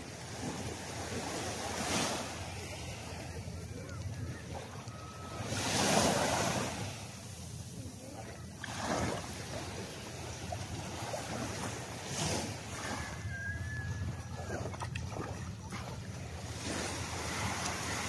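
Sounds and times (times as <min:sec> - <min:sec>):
small waves washing on sand: 0:00.0 - 0:18.0.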